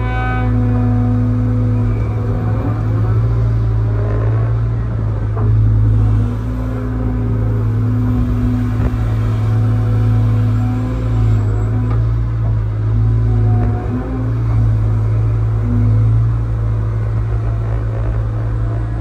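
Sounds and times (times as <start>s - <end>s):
excavator diesel engine: 0.0s - 19.0s.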